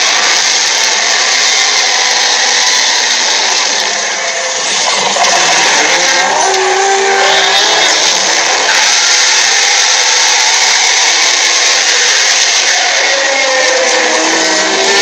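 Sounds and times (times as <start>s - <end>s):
stampede of running animals: 0.0s - 15.0s.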